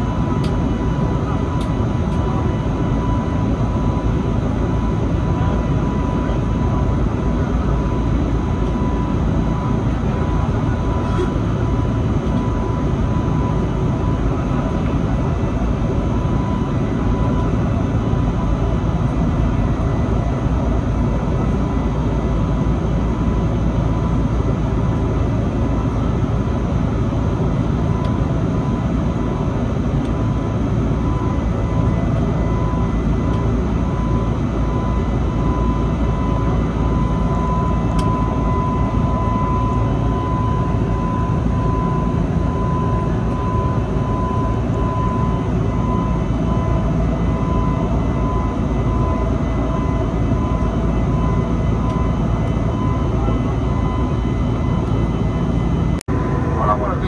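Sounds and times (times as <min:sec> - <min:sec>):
engine and airflow rumble: 0:00.0 - 0:57.0.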